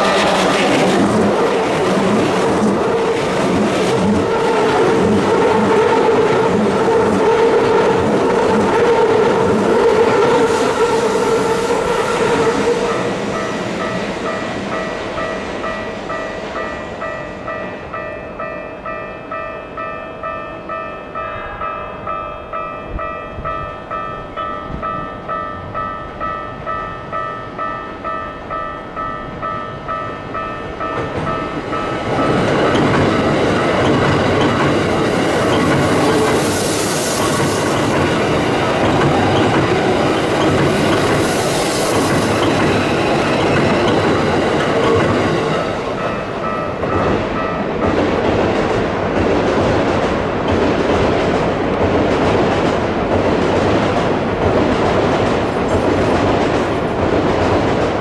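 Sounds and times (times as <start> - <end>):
level crossing warning bell: 0.0 - 49.2
electric train running past: 0.0 - 58.0.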